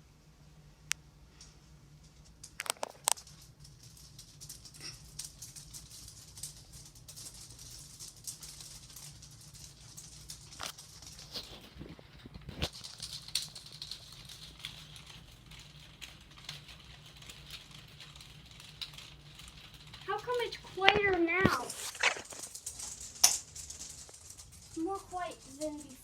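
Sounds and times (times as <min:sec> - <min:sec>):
tape flapping on fan blade: 0:01.3 - 0:26.0.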